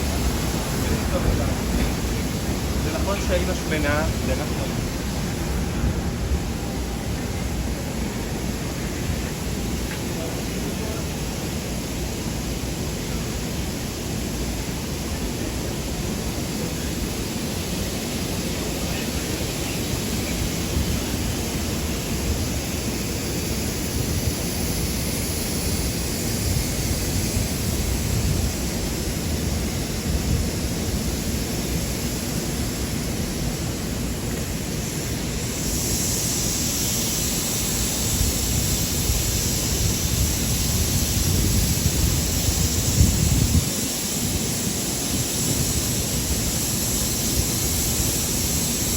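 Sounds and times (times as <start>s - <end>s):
bright hiss: 0.0s - 48.9s
traffic rumble and hiss: 0.0s - 48.9s.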